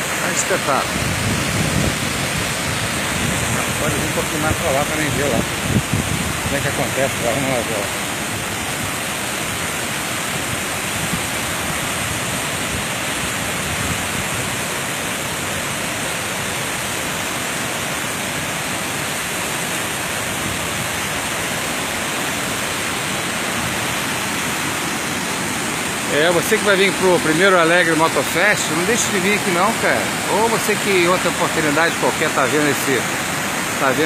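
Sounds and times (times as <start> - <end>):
waterfall pouring onto rocks: 0.0 - 34.0.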